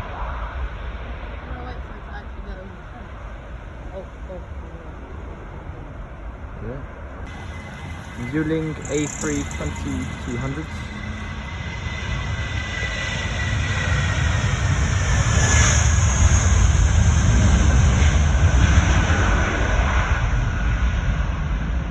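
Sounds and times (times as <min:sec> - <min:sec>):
jet airliner passing by: 0:00.0 - 0:21.9
jet engine whine dropping in pitch: 0:00.0 - 0:21.9.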